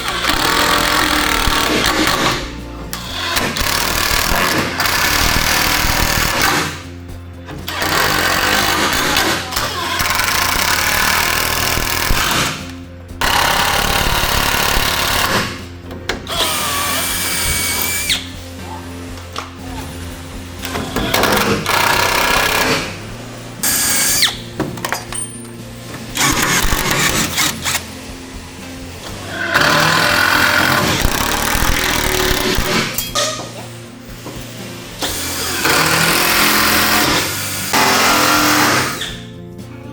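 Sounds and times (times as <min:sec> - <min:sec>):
power tool running: 0:00.0 - 0:39.4
background music: 0:00.0 - 0:39.9.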